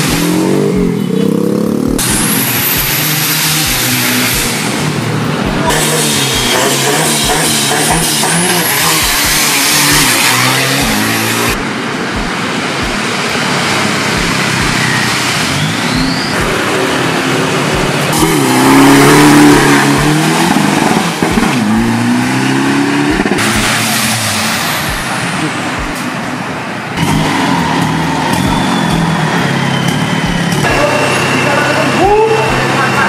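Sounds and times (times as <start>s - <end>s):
engines revving and accelerating: 0.0s - 33.0s.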